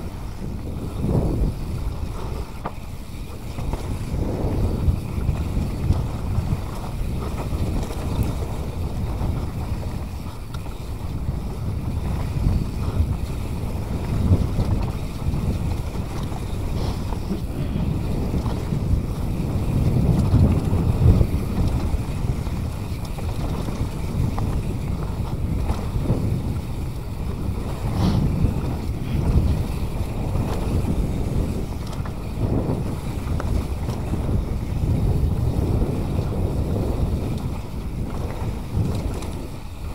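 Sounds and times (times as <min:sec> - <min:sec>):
bike rolling on dirt trail: 0:00.0 - 0:39.9
wind buffeting microphone: 0:00.0 - 0:39.9.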